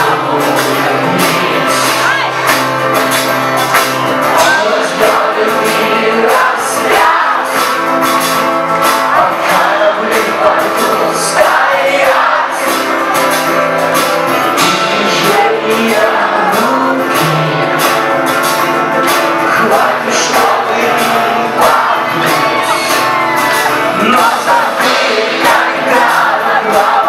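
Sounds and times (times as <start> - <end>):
person singing: 0.0 - 2.8, 4.1 - 13.2, 14.3 - 27.0
rock band playing live: 0.0 - 27.0.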